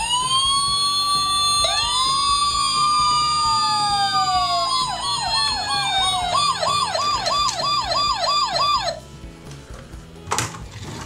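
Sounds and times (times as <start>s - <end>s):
toy police car sirens wailing: 0.0s - 9.0s.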